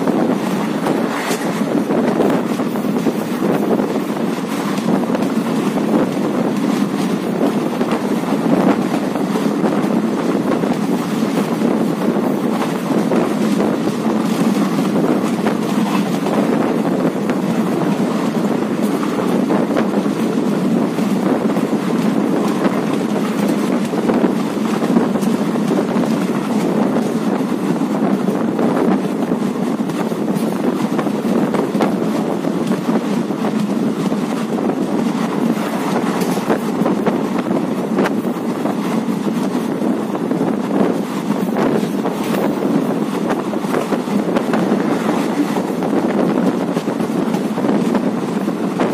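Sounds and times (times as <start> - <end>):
train wheels rumbling on rails: 0.0 - 48.9
wind rushing on microphone: 0.0 - 48.9.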